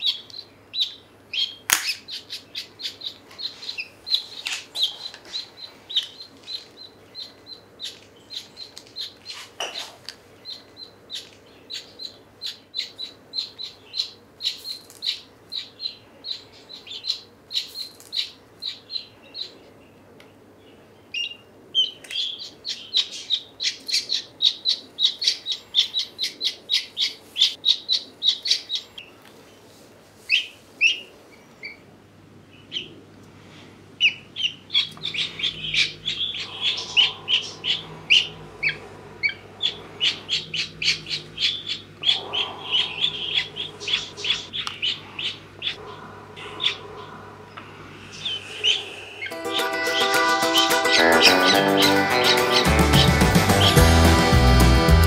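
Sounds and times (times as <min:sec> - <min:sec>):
chick peeping: 0:00.0 - 0:20.3, 0:21.1 - 0:29.2, 0:30.3 - 0:31.9, 0:32.5 - 0:33.3, 0:34.0 - 0:55.0.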